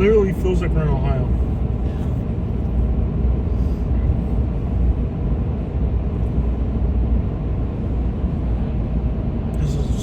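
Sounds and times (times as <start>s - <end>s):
road noise inside vehicle: 0.0s - 10.0s
vehicle engine running: 0.0s - 10.0s.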